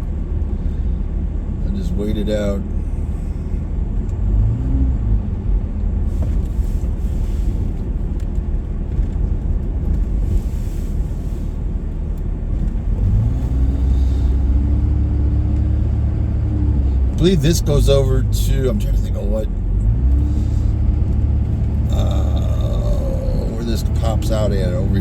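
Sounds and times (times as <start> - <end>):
road noise: 0.0 - 25.0
vehicle engine rumbling: 0.0 - 25.0.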